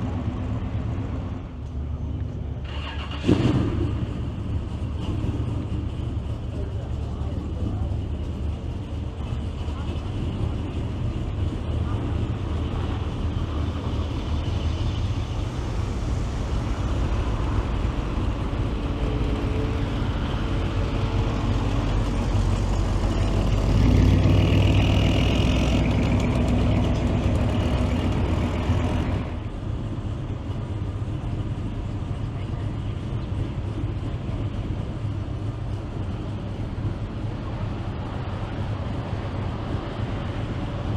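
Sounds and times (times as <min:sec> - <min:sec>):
car engines driving by: 0:00.0 - 0:40.9.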